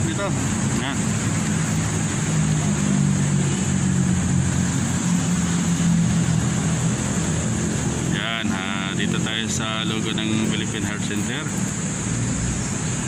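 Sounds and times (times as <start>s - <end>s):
street noise hiss: 0.0s - 13.0s
traffic engine hum: 0.0s - 13.0s.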